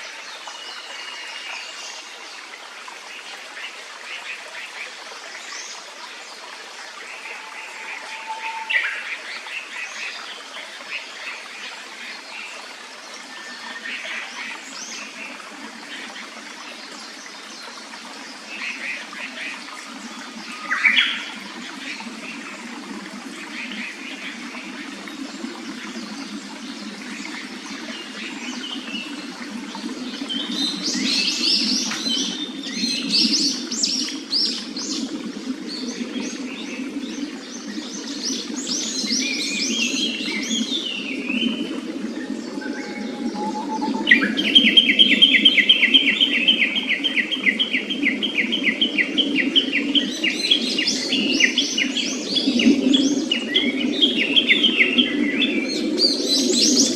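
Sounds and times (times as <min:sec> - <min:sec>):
stream rushing: 0:00.0 - 0:52.1.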